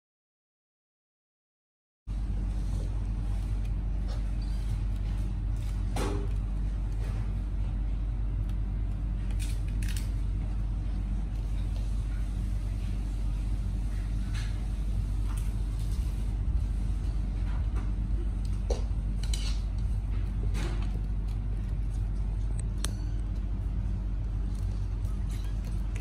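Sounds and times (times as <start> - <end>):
low electrical hum: 2.1 - 26.0.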